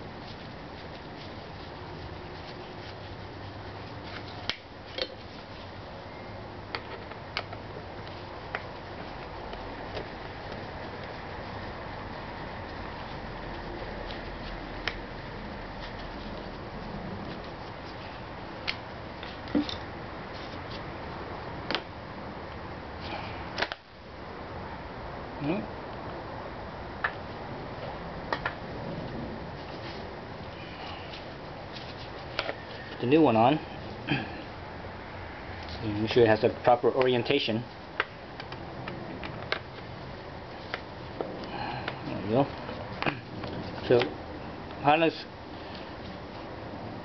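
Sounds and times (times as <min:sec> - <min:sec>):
low background hum: 0:00.0 - 0:47.0
steady background hiss: 0:00.0 - 0:47.0.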